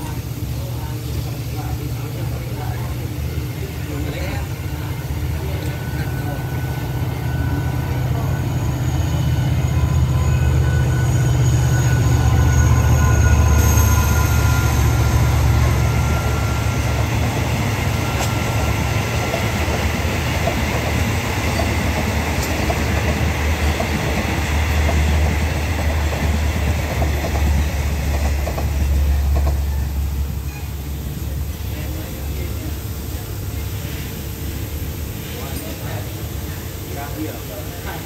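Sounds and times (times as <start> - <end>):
diesel locomotive rumble: 0.0 - 38.0.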